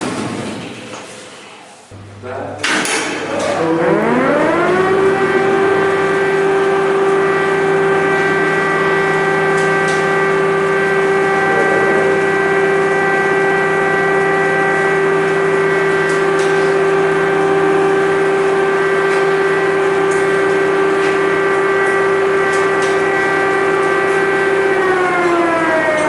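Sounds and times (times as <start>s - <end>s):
warning siren wailing: 3.3s - 26.0s.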